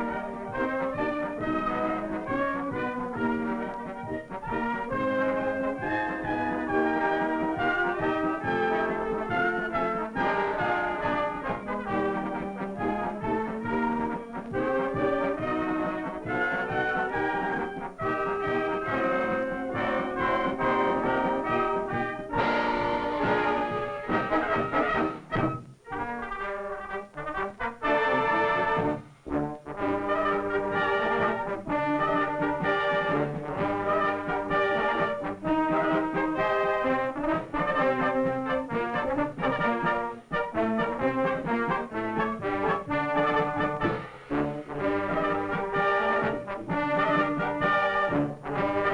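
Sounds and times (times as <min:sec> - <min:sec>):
brass circus band music: 0:00.0 - 0:48.9
trumpets and trombones playing: 0:00.0 - 0:48.9.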